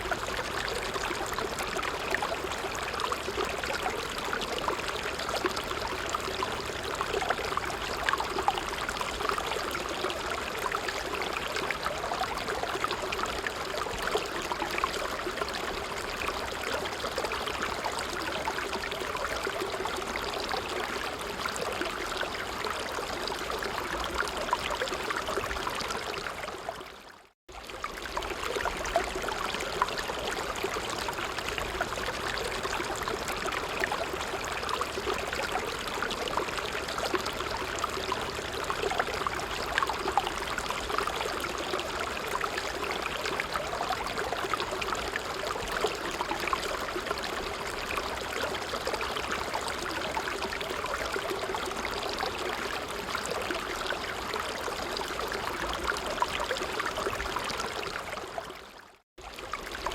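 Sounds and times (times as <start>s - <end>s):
brook flowing over stones: 0.0s - 59.9s.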